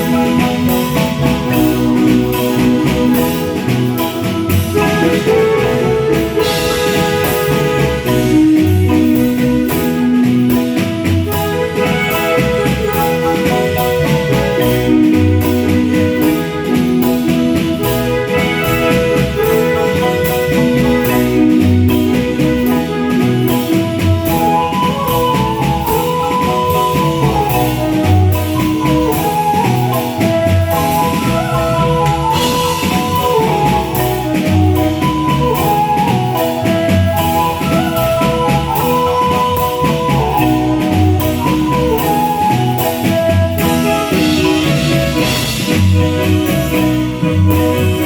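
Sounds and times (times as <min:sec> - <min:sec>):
marimba notes: 0:00.0 - 0:48.0
pulsing bass line: 0:00.0 - 0:48.0.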